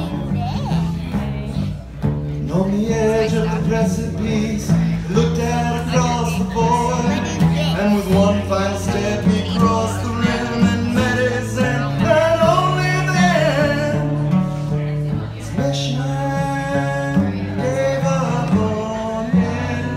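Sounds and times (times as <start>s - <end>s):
guitar accompaniment: 0.0s - 19.9s
man singing: 0.0s - 19.9s.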